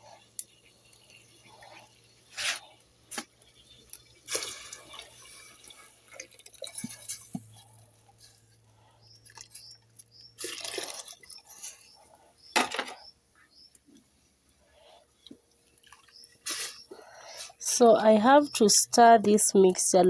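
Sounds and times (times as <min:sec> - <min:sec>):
water boiling and splashing in pot: 0:00.0 - 0:12.9, 0:13.9 - 0:17.9.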